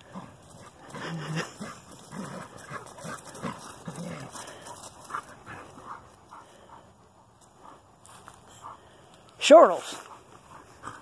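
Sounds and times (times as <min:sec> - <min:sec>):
paws scuffling on grass: 0:00.0 - 0:11.0.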